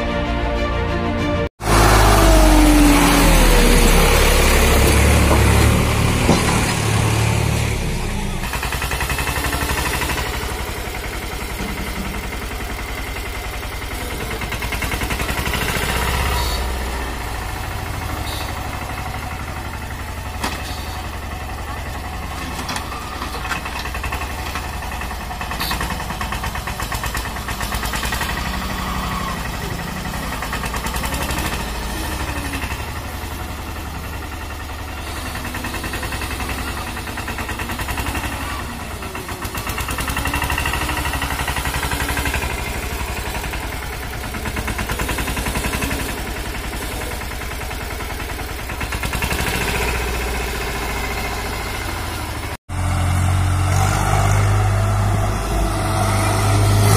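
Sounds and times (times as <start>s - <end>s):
tractor diesel engine running: 1.4s - 56.9s.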